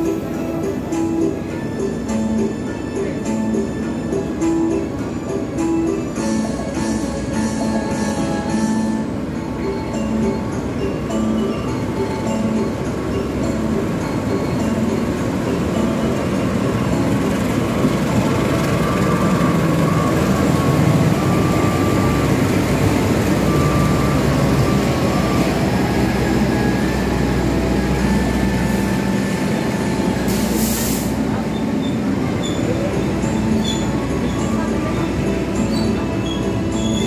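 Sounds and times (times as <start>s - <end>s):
train coaches rolling past: 0.0s - 37.0s.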